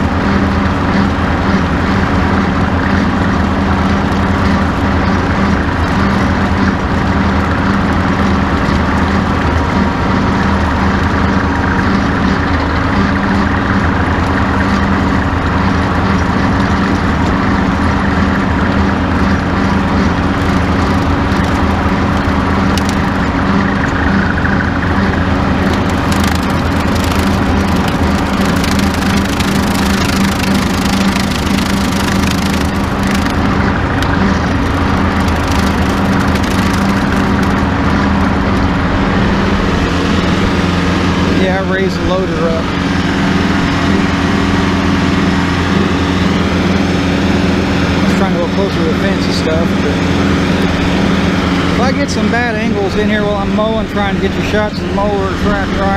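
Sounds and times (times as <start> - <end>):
tractor engine droning: 0.0 - 55.9
rotary cutter through tall grass: 0.1 - 55.9.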